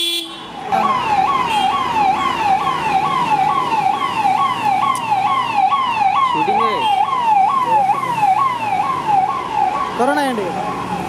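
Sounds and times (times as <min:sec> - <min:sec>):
electronic siren wailing: 0:00.8 - 0:11.0.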